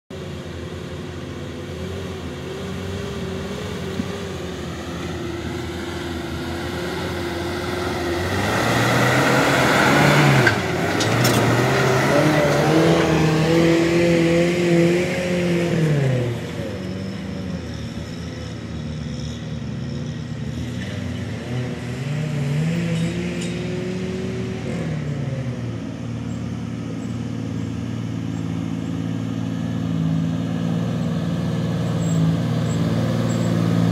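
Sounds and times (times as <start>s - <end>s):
truck engines revving: 0.1s - 33.9s.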